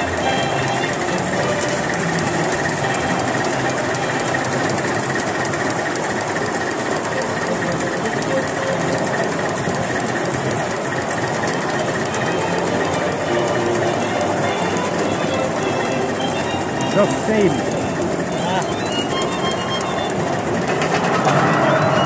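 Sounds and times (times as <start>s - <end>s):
model steam locomotive running: 0.0s - 22.0s.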